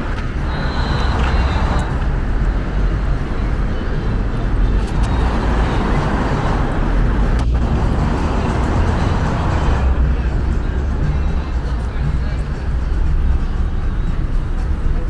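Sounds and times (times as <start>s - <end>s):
cars passing: 0.0s - 15.0s
deep traffic rumble: 0.0s - 15.0s.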